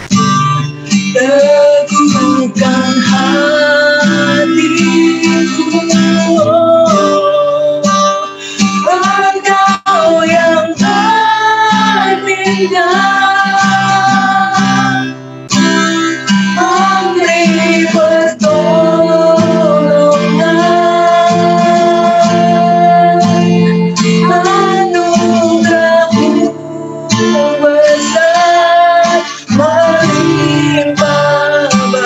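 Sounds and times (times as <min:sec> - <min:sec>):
acoustic guitar: 0:00.0 - 0:32.0
woman singing: 0:01.1 - 0:15.1, 0:16.5 - 0:32.0.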